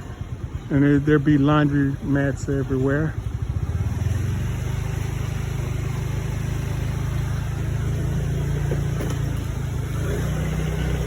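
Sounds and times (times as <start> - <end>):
motorbike engine rumbling: 0.0 - 11.0.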